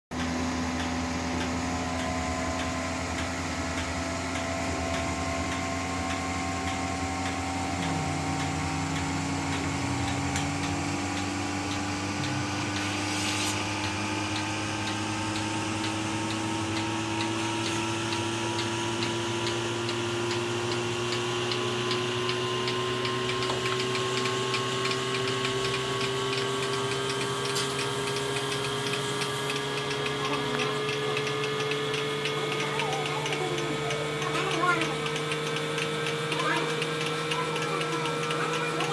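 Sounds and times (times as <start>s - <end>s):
machine motor humming: 0.1s - 38.9s
fast even ticking: 0.2s - 38.9s.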